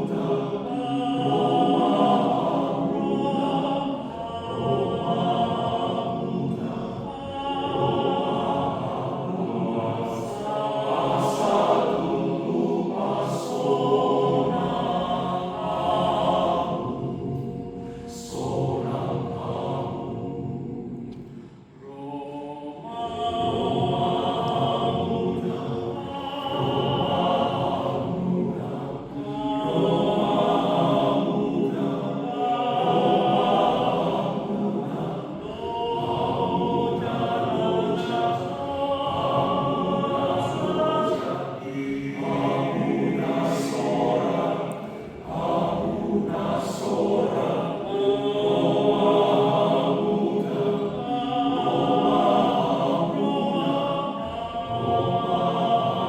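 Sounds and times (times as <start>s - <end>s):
men's choir singing a hymn: 0.0s - 56.0s.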